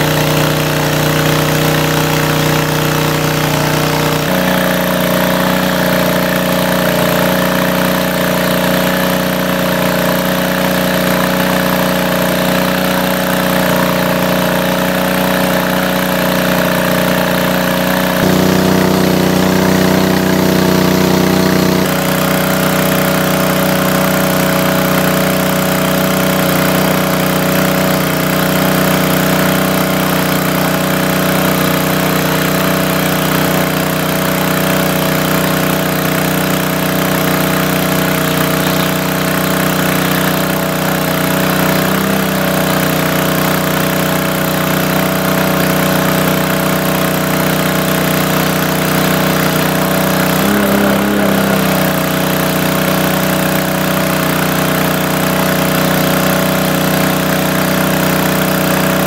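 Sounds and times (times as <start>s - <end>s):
engine-driven water pump running: 0.0s - 59.0s.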